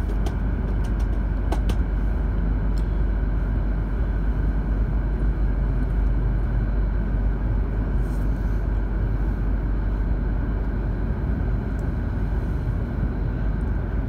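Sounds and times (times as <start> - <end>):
train cabin rumble and hum: 0.0 - 14.0.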